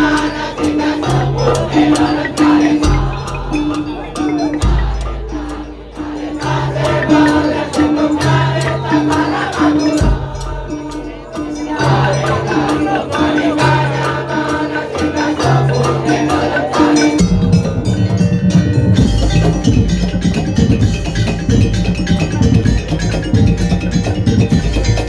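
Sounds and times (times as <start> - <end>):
percussion ensemble playing: 0.0 - 25.0.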